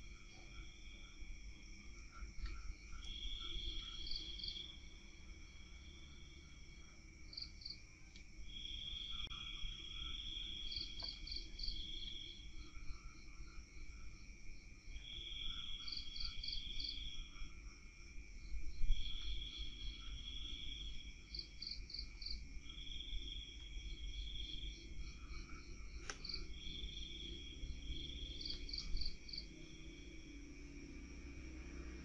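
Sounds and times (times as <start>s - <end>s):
crickets and night insects chorus: 0.0s - 32.0s
high insect trill: 0.0s - 32.0s.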